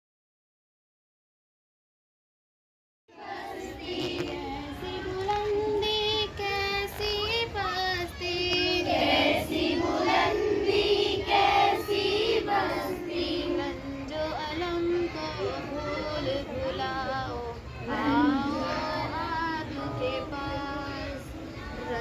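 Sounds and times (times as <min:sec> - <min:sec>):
girls singing in unison: 0:03.1 - 0:22.0.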